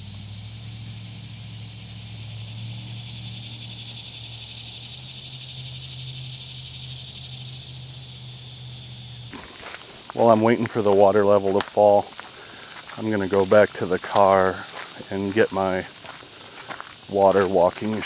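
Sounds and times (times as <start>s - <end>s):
insect chorus: 0.0s - 18.0s
low steady hum: 0.0s - 18.0s.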